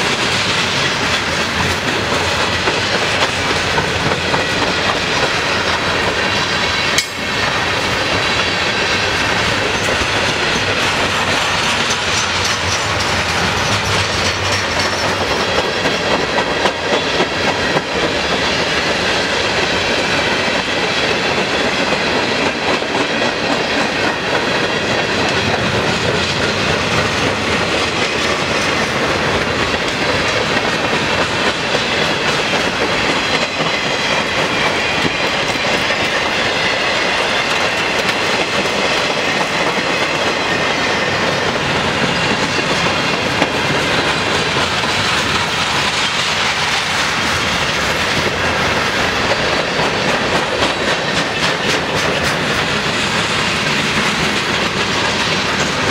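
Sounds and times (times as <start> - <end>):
freight train rolling past: 0.0 - 55.9
steel wheels running over rails: 0.0 - 55.9.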